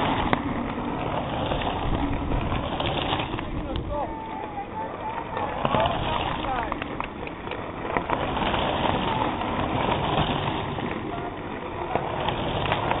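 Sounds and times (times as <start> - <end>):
bike tyres rushing on gravel: 0.0 - 13.0
faint spectators' voices: 0.0 - 13.0.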